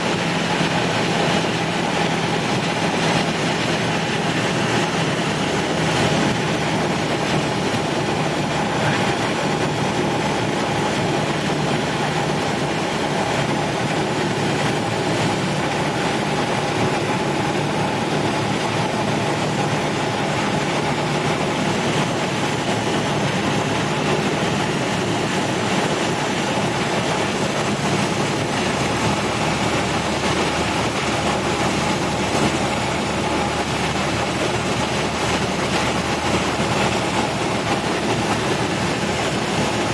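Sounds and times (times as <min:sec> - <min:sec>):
airflow noise: 0:00.0 - 0:39.9
propeller plane engine running: 0:00.0 - 0:39.9.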